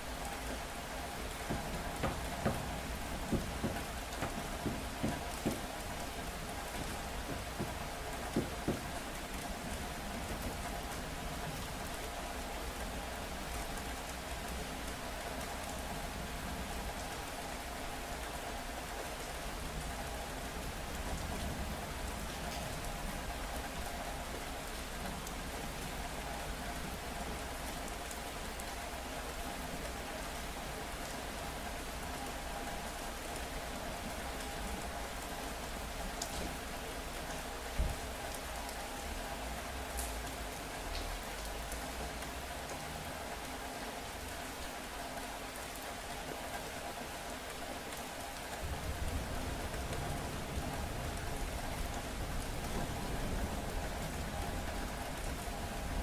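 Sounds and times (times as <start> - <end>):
rain falling on street: 0.0 - 56.0.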